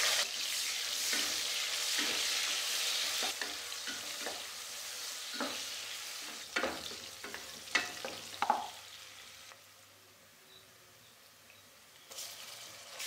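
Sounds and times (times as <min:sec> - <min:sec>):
onions sizzling in hot oil: 0:00.0 - 0:09.8, 0:11.8 - 0:13.0.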